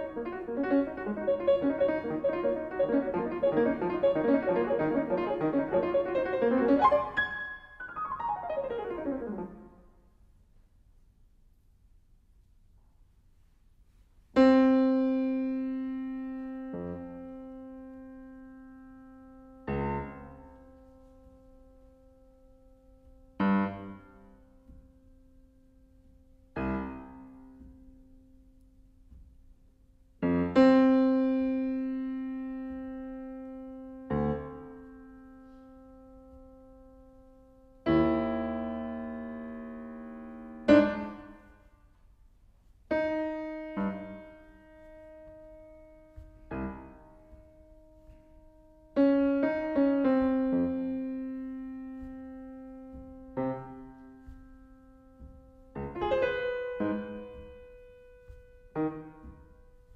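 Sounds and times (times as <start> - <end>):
slow piano notes and chords: 0.0 - 9.9, 14.4 - 41.7, 42.9 - 59.9.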